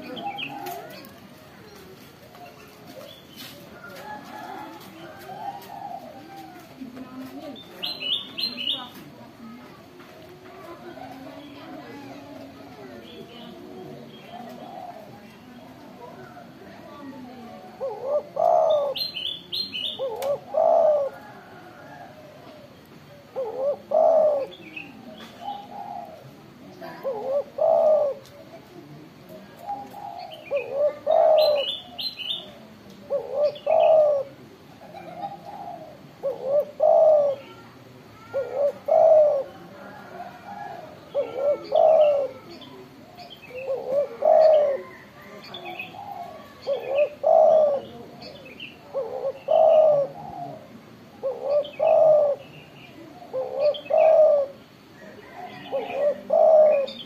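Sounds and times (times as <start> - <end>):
dove cooing: 0.0 - 9.5, 10.6 - 57.0.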